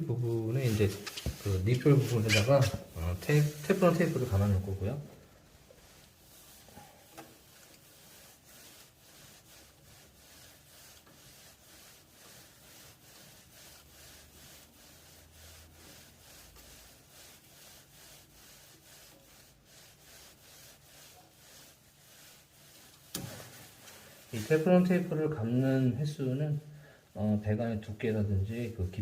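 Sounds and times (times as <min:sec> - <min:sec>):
thread tape rubbing on pipe: 0:00.2 - 0:25.8.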